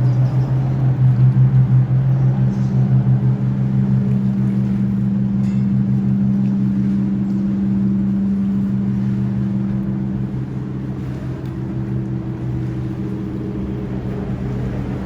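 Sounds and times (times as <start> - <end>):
engine idling low hum: 0.0 - 15.0.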